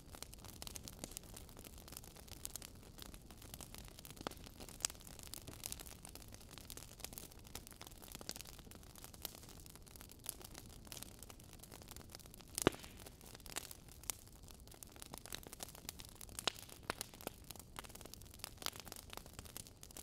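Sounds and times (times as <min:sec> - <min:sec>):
faint fire hiss: 0:00.0 - 0:20.0
wood fire crackling: 0:00.0 - 0:20.0.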